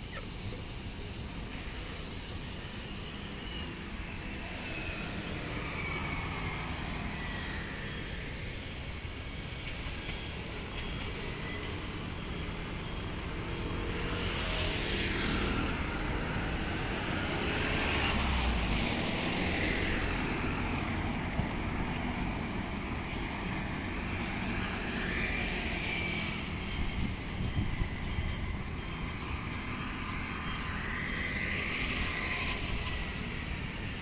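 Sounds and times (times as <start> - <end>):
steady traffic noise: 0.0 - 34.0.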